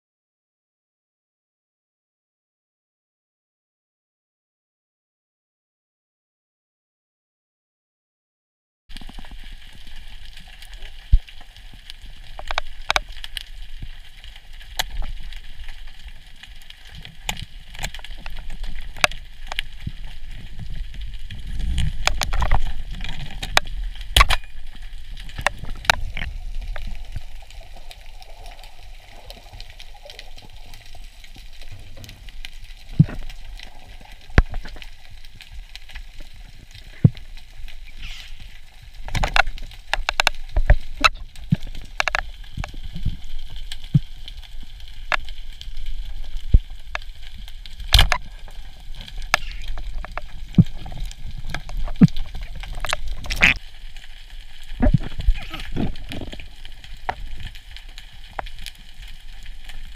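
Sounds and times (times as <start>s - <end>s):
underwater rumble of moving water: 8.9s - 59.9s.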